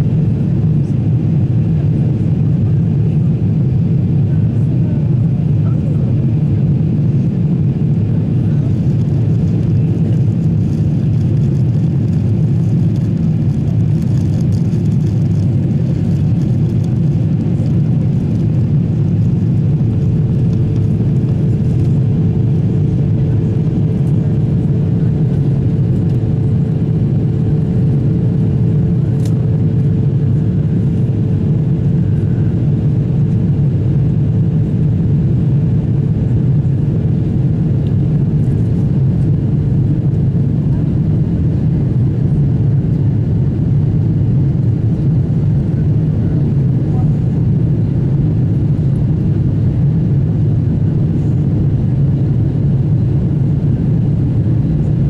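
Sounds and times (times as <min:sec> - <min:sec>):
jet engine rumble in cabin: 0:00.0 - 0:55.0
steady hum: 0:00.0 - 0:55.0.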